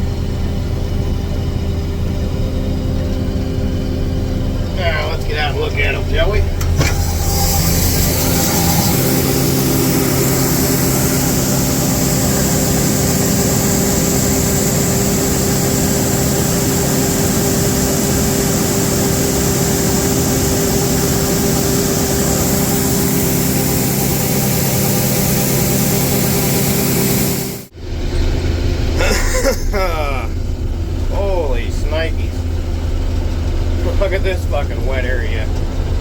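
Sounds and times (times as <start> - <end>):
combine harvester engine hum: 0.0 - 36.0.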